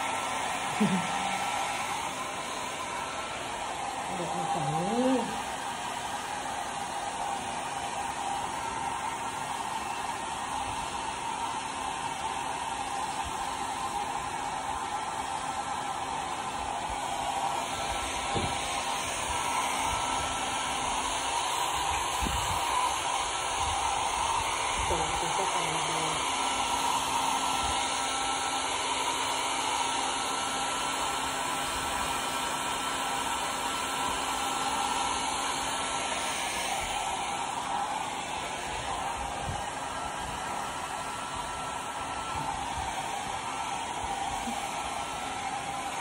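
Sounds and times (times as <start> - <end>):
hair dryer blowing: 0.0 - 46.0.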